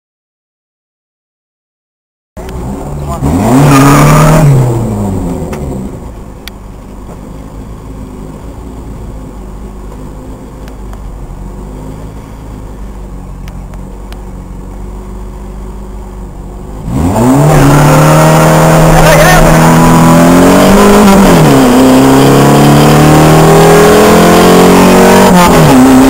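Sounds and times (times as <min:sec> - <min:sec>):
car engine idling and revving: 0:02.4 - 0:26.0.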